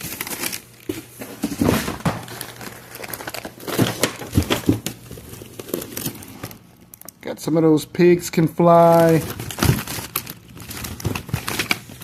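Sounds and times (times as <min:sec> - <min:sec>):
packaging crinkling and rustling: 0:00.0 - 0:07.4, 0:08.4 - 0:12.0.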